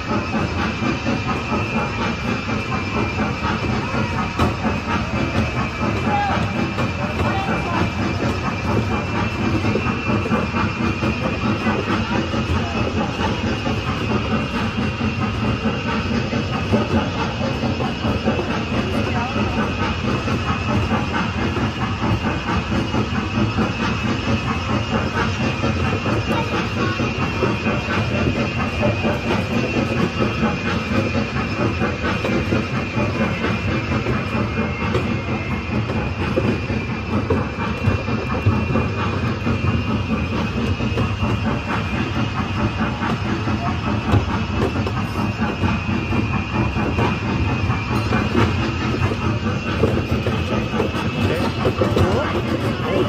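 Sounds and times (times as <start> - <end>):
train rumbling and rattling: 0.0 - 53.0.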